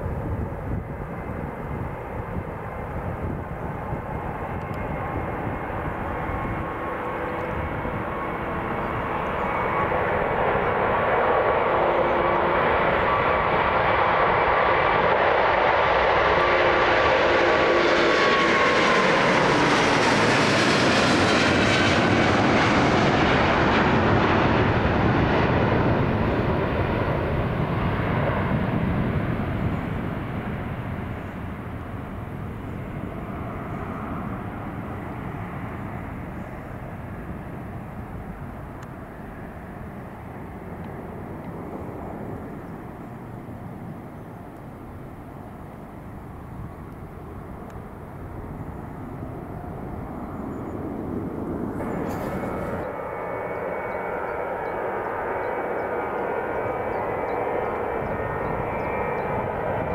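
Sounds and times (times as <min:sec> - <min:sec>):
jet airliner taking off: 0:00.0 - 0:59.9.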